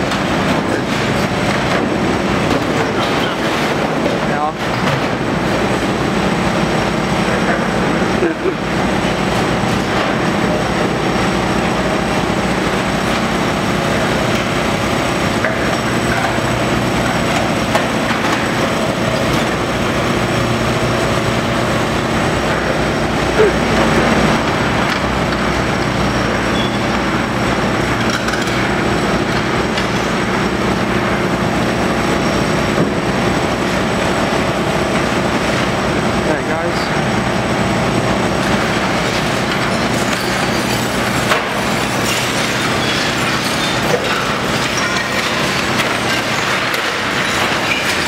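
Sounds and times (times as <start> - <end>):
excavator diesel engine running: 0.0 - 48.0
hydraulics working: 0.0 - 48.0.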